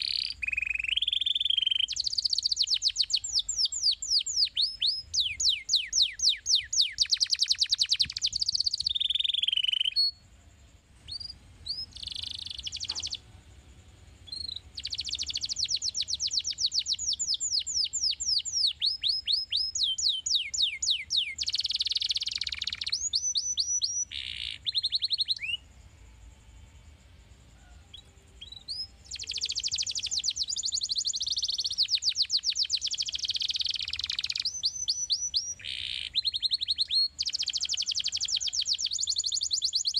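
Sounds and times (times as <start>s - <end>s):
canary singing trills: 0.0s - 26.4s, 27.0s - 39.9s.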